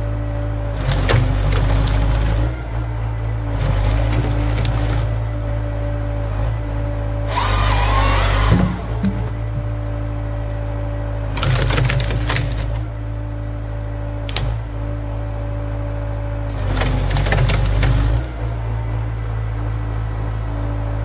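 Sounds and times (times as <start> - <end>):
tractor engine drone: 0.0 - 21.0.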